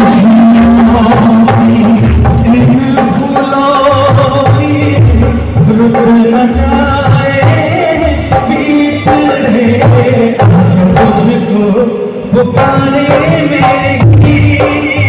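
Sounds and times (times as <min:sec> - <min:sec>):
hand drums playing: 0:00.0 - 0:11.8, 0:12.4 - 0:15.0
keyboard melody: 0:00.0 - 0:15.0
man singing into a microphone: 0:00.0 - 0:15.0.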